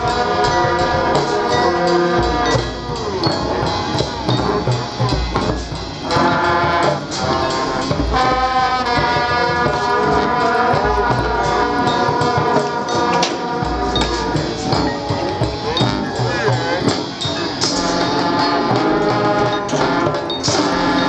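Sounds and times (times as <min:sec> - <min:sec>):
brass sustained chords: 0:00.0 - 0:21.0.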